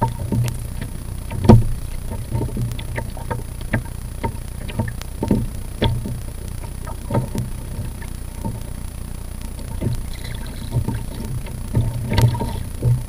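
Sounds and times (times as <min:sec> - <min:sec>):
waves slapping plastic hull: 0:00.0 - 0:13.0
wind rumble on microphone: 0:00.0 - 0:13.0.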